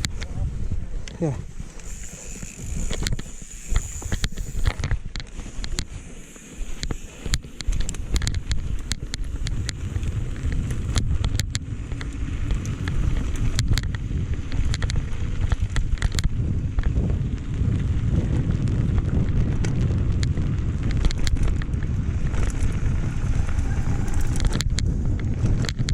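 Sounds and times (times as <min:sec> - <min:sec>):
sharp clicks and rattles: 0:00.0 - 0:00.4, 0:01.0 - 0:25.9
wind buffeting microphone: 0:00.0 - 0:25.9.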